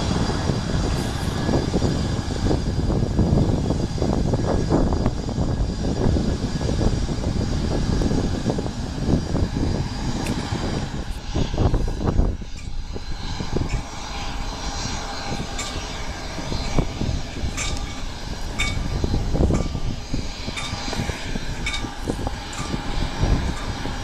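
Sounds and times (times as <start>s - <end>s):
faint high engine whine: 0.0s - 24.0s
jet engines taxiing: 0.0s - 24.0s.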